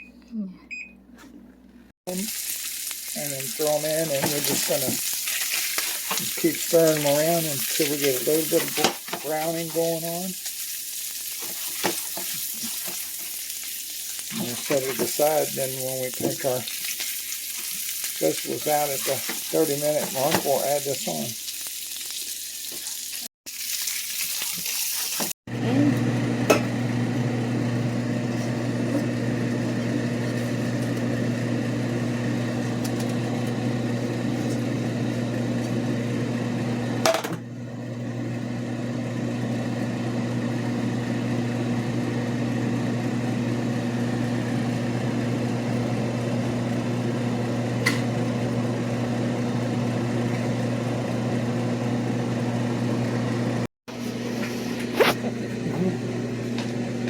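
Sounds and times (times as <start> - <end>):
kitchen appliance motor humming: 2.1 - 21.4, 25.2 - 57.0.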